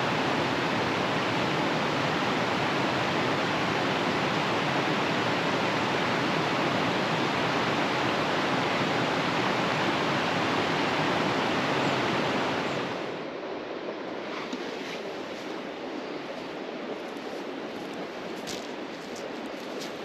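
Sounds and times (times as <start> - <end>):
rushing river water: 0.0 - 20.0.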